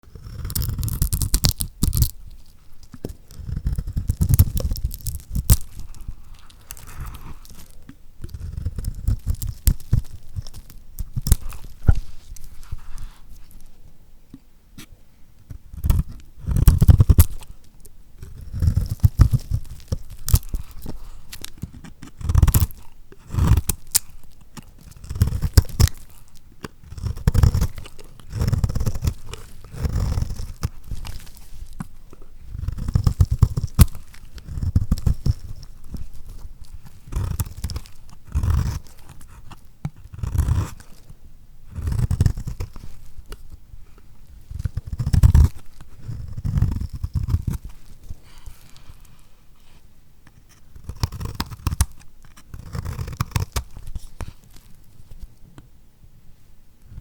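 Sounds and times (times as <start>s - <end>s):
knife cutting through soap: 0.1s - 13.7s, 14.8s - 17.6s, 18.2s - 54.8s.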